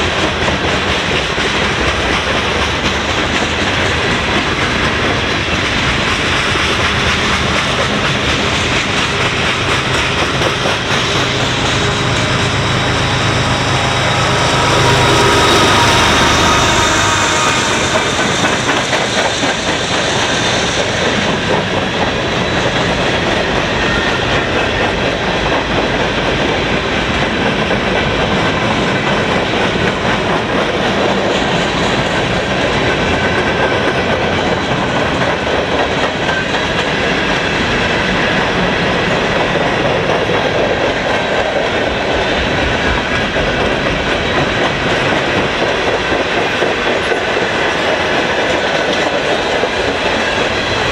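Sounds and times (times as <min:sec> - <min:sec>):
freight train rolling past: 0:00.0 - 0:50.9
steel wheels clacking over rail joints: 0:00.0 - 0:50.9.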